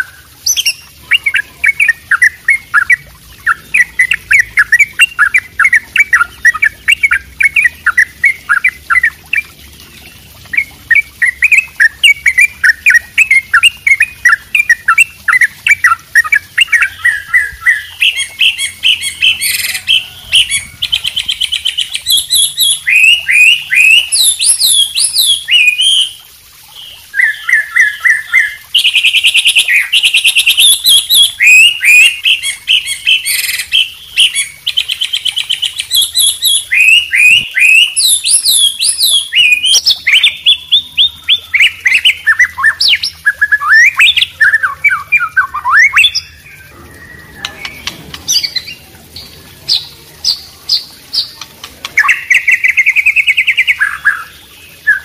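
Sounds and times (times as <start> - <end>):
songbirds singing: 0.0 - 55.0
water trickling: 0.0 - 55.0.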